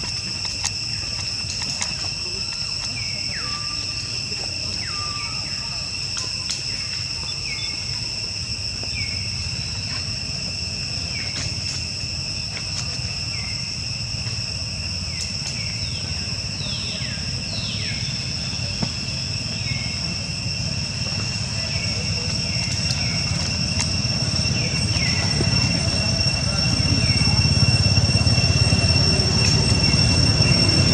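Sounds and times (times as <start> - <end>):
insect buzzing chorus: 0.0 - 30.9.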